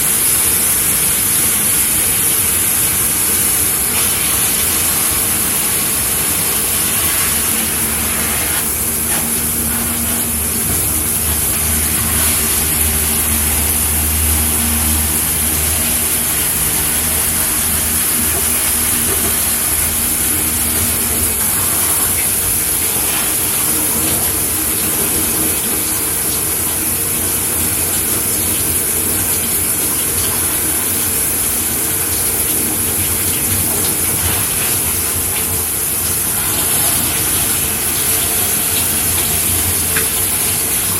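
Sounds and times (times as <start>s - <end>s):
shower water spraying: 0.0s - 40.9s.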